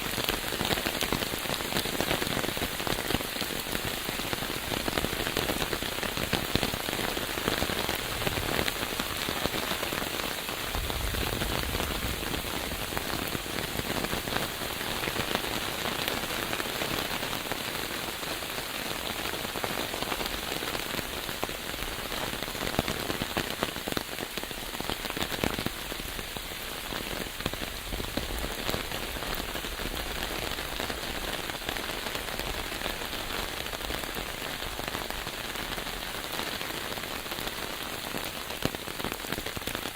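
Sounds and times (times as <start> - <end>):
close raindrops ticking: 0.0 - 39.9
steady rain falling: 0.0 - 39.9.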